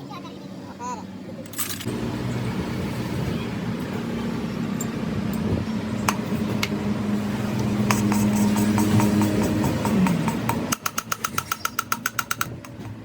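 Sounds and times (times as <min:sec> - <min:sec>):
diesel engine humming: 0:00.0 - 0:10.8.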